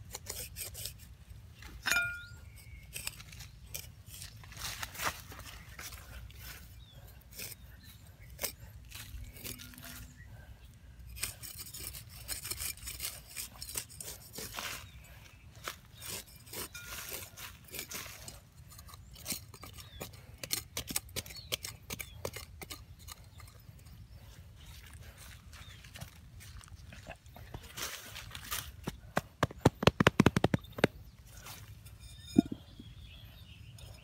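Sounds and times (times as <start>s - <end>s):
metal blade scraping dry soil: 0.0s - 26.8s, 27.6s - 34.0s.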